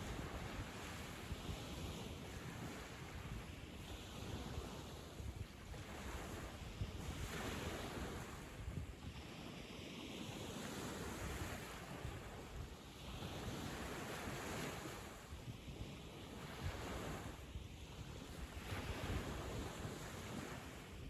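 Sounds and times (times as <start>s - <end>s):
sea waves washing on sand: 0.0s - 21.0s
wind rumble on microphone: 0.0s - 21.0s.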